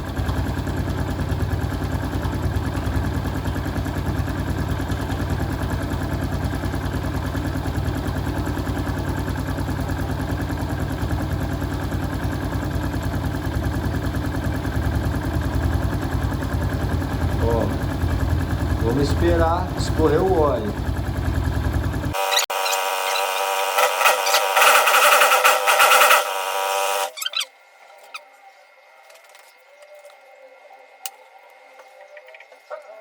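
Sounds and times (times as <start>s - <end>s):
small engine idling: 0.0s - 27.5s.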